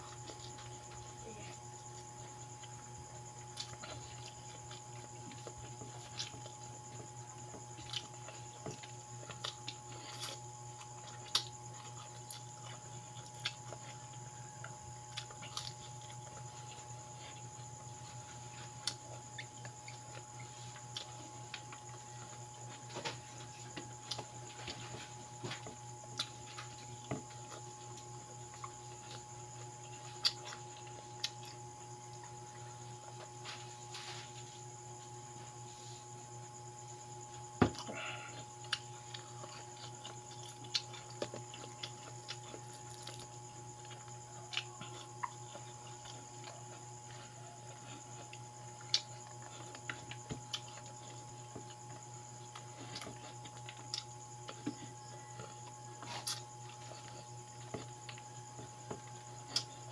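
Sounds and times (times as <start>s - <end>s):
steady low hum: 0.0s - 59.9s
person chewing noodles: 1.9s - 33.3s, 37.2s - 59.9s.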